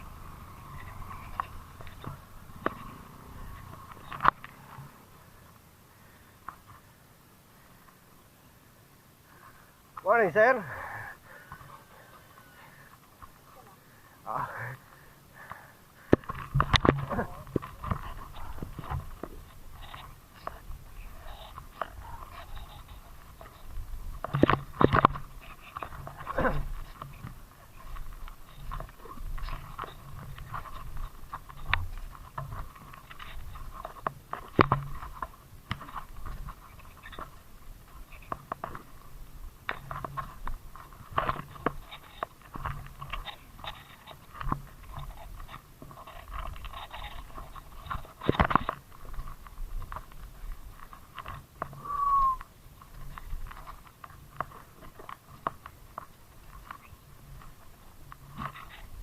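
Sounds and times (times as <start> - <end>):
bike rattling over rough road: 0.0 - 7.0, 9.4 - 59.0.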